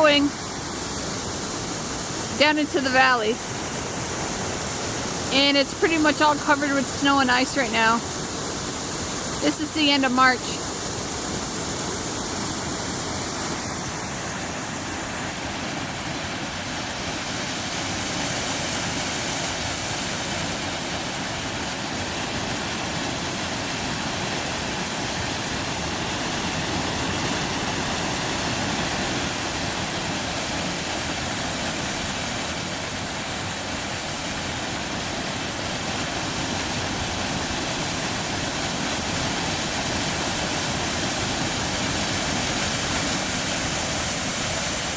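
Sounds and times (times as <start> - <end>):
water rushing: 0.0 - 44.9.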